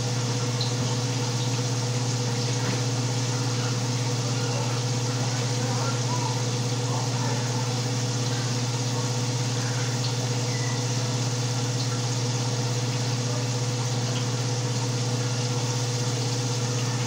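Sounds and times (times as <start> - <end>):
range hood fan humming: 0.0 - 17.0.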